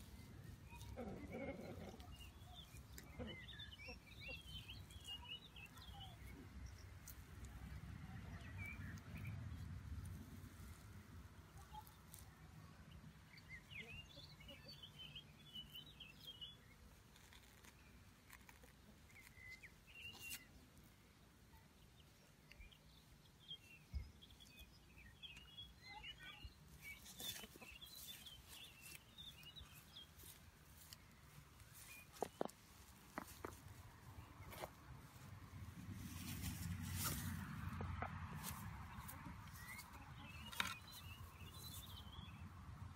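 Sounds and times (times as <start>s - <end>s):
faint birdsong: 0.0s - 42.9s.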